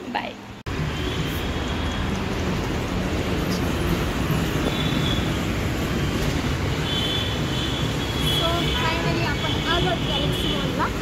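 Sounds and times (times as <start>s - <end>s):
loud rushing outdoor noise: 0.4s - 11.0s.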